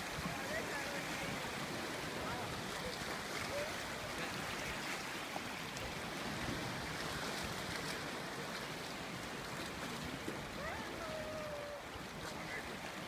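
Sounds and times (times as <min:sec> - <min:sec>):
sea water lapping over rocks: 0:00.0 - 0:13.0.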